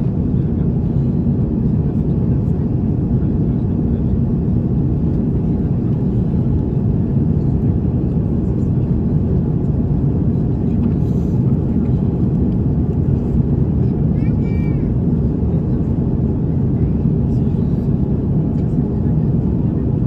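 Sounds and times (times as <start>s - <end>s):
airplane cabin low rumble: 0.0s - 20.0s.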